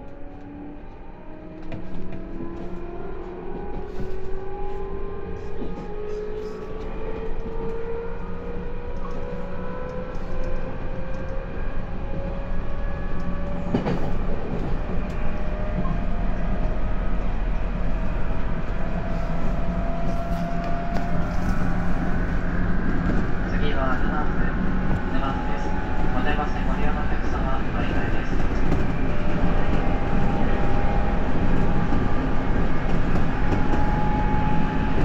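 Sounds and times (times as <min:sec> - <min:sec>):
wheels rumbling on rail: 0:00.0 - 0:35.0.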